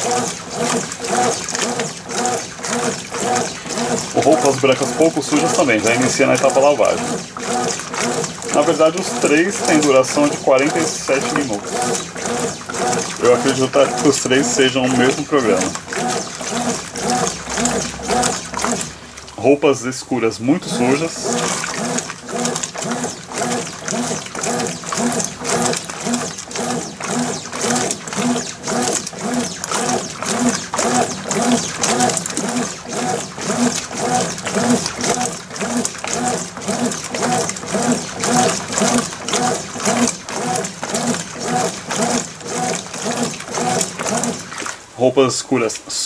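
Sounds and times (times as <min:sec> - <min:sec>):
water sloshing: 0:00.0 - 0:45.7
washing machine motor hum: 0:00.0 - 0:46.0.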